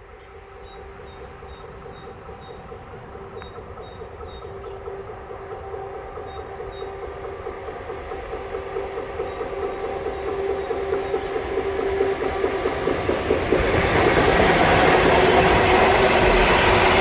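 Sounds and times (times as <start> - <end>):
train humming drone: 0.0 - 17.0.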